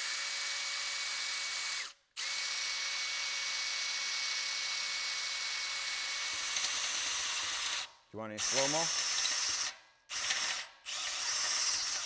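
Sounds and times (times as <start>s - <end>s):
cordless drill boring into metal: 0.0s - 12.0s.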